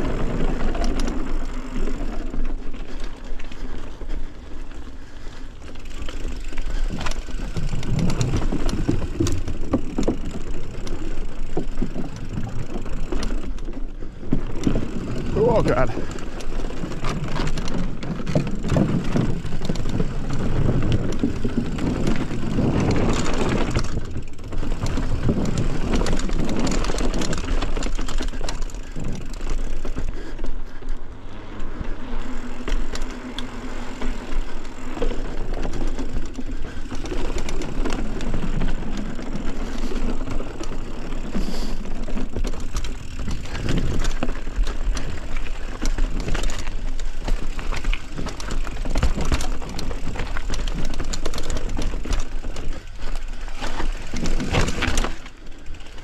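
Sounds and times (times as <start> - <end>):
bike tyres rushing on trail: 0.0 - 56.0
bike knocks and rattles: 5.0 - 56.0.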